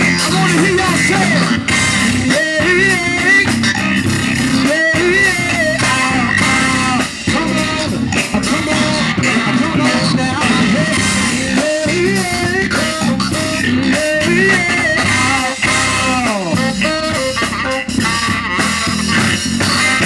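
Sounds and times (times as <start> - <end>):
electric guitar lead line: 0.0 - 20.0
live band playing instrumental: 0.0 - 20.0.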